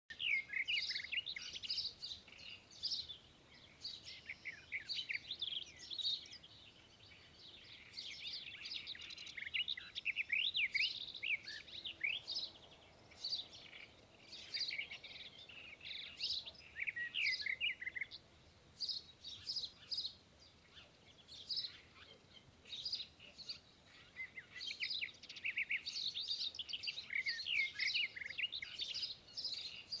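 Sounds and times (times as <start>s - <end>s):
small songbirds chirping: 0.1s - 30.0s.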